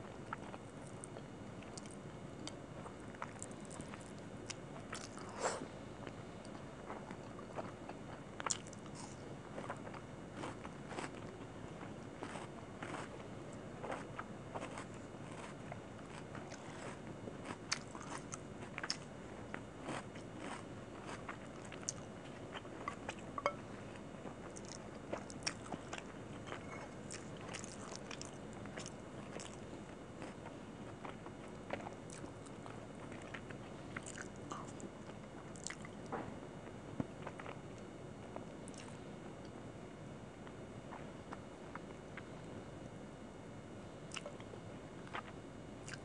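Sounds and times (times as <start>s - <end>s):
chewing and crunching food: 0.0s - 39.6s, 44.1s - 46.0s.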